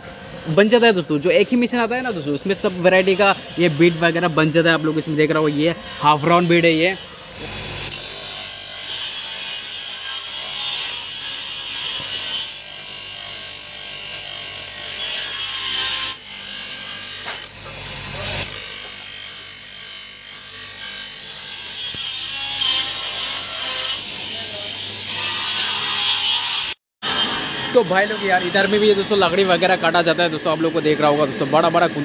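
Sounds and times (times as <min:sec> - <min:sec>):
grinder grinding saw blade: 0:00.0 - 0:32.0.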